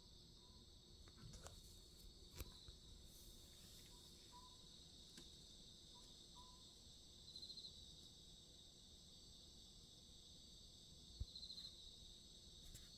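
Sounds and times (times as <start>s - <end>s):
crickets chirring: 0.0s - 12.9s.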